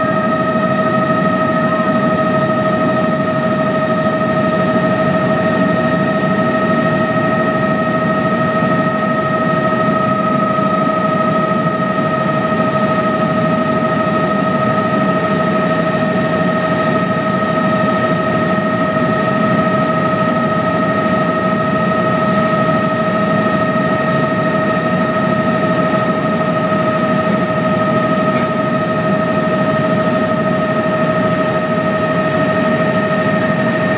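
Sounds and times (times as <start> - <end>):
helicopter drone: 0.0 - 33.9.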